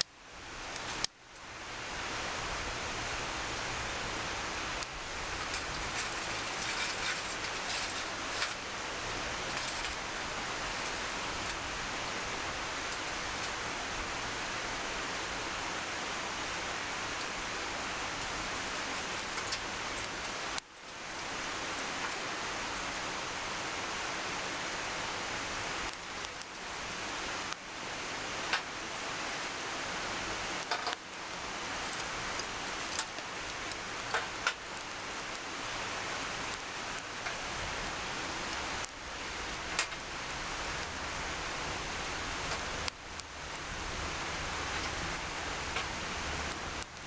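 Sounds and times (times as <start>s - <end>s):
campfire crackles and pops: 0.0s - 23.6s, 24.8s - 47.0s
fire rushing hiss: 0.0s - 47.0s.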